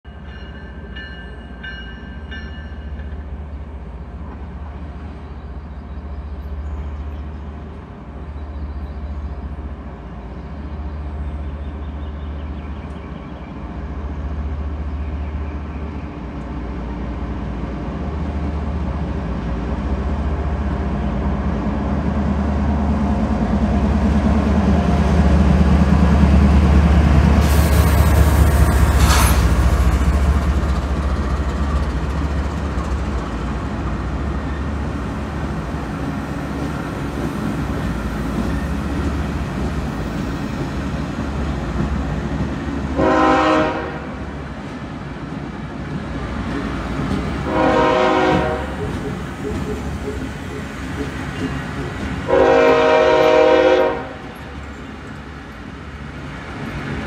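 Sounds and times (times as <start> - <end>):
diesel locomotive engine rumble: 0.1 - 57.0.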